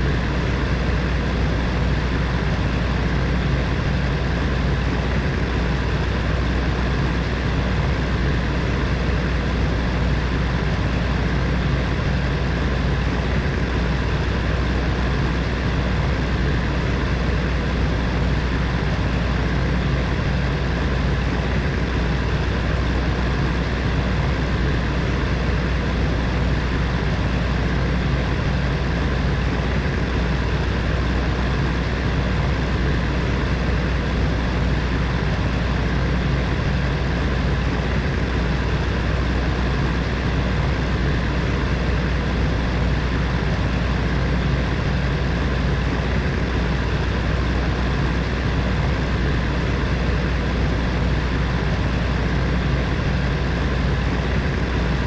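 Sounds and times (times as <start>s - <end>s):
heater fan whirring: 0.0s - 55.0s.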